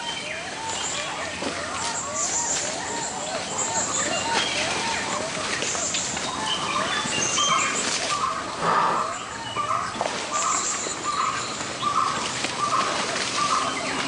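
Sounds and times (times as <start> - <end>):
high chirping from forest: 0.0 - 14.0.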